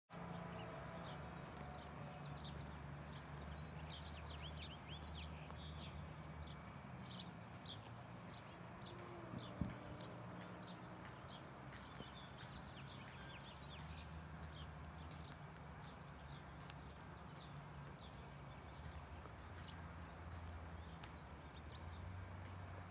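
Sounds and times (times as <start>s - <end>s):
songbirds chirping: 0.1s - 22.9s.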